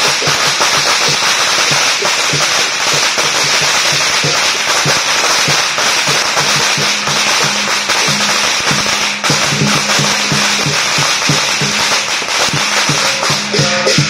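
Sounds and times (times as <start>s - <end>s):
drum beating steadily: 0.0s - 14.0s
firecrackers crackling and popping: 0.0s - 14.0s.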